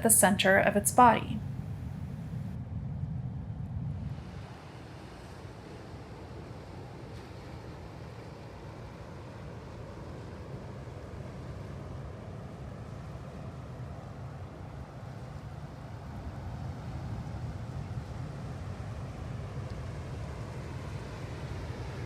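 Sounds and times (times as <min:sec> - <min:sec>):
ocean surf rumbling: 0:00.0 - 0:22.0.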